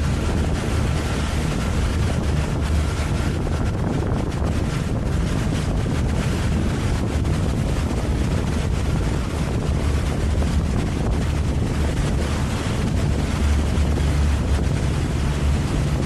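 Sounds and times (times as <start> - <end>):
motorboat engine drone: 0.0 - 16.0
wind buffeting microphone: 0.0 - 16.0.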